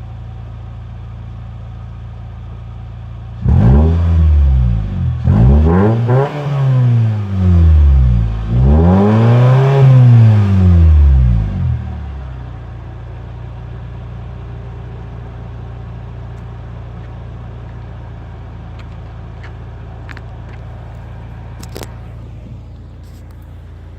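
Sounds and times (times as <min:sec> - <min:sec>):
car engine idling: 0:00.0 - 0:05.6, 0:10.1 - 0:23.9.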